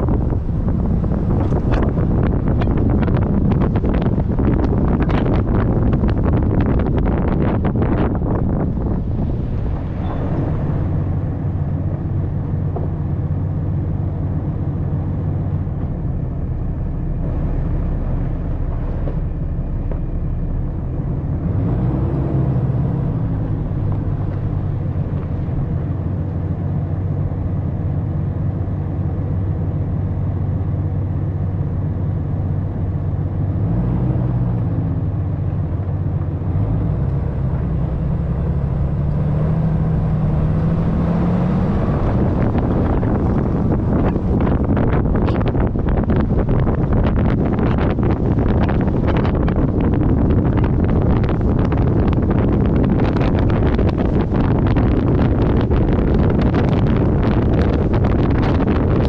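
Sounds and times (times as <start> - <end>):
pickup truck engine running: 0.0 - 59.0.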